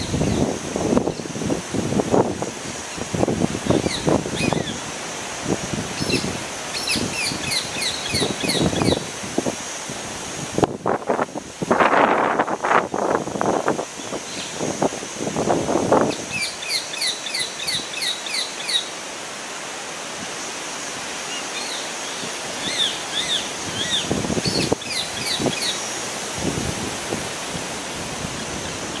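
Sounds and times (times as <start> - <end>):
insect hiss: 0.0 - 29.0.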